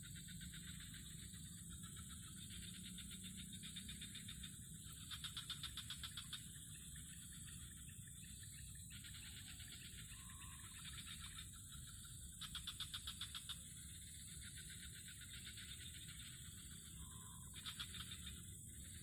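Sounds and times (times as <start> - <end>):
high-pitched insect drone: 0.0 - 19.0
rapid pulsed chirping: 0.0 - 19.0.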